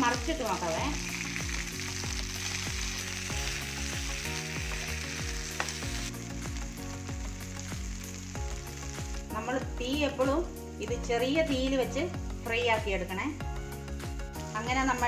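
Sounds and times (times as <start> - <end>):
cheese sizzling in oil: 0.0 - 13.2, 13.8 - 15.0.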